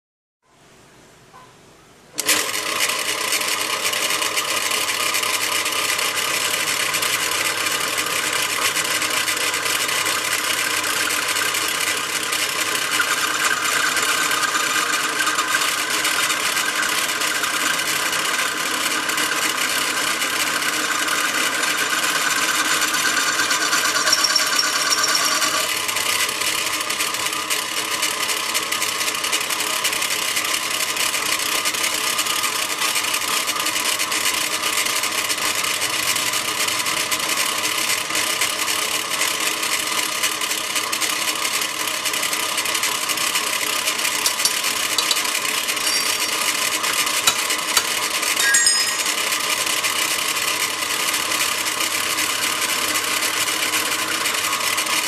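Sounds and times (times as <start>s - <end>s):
drill press whine: 2.2s - 55.0s.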